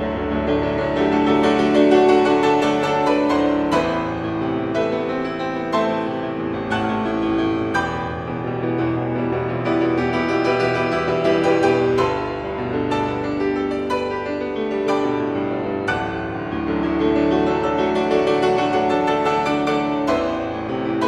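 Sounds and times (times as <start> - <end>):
instrumental music: 0.0 - 21.0.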